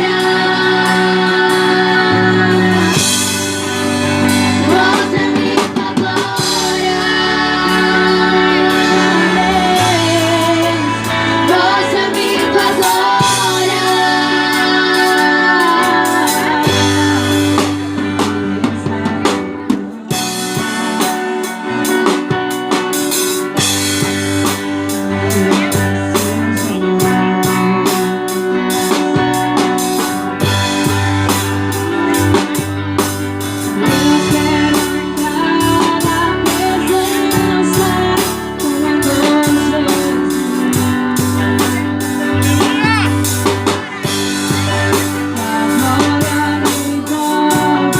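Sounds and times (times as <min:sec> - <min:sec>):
band playing instrumental: 0:00.0 - 0:47.9
drum kit beat: 0:00.0 - 0:47.9.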